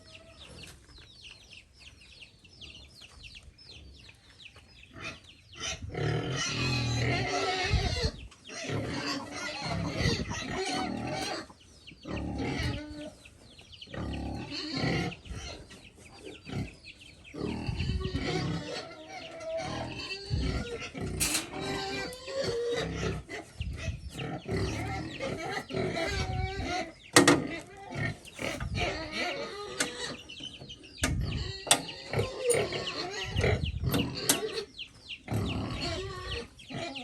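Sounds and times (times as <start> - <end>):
pigs grunting and eating: 4.9 - 13.2, 13.8 - 30.4, 31.1 - 37.0.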